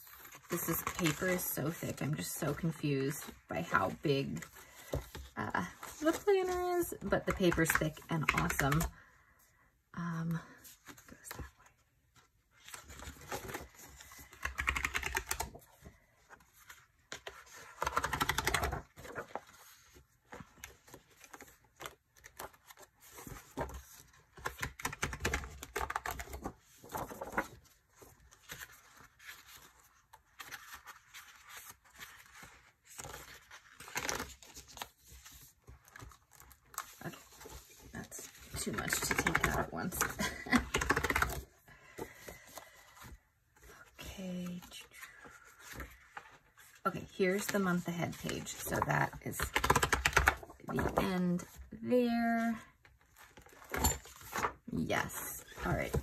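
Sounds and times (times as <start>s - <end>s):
paper rustling: 0.1s - 1.5s, 2.2s - 8.9s, 10.7s - 51.6s, 53.0s - 56.0s.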